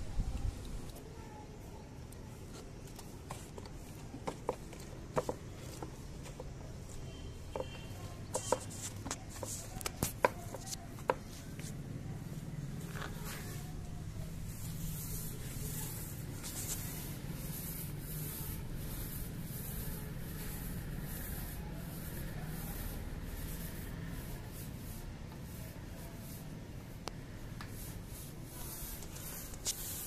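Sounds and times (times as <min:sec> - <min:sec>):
paint roller swishing on concrete: 0:00.2 - 0:30.0.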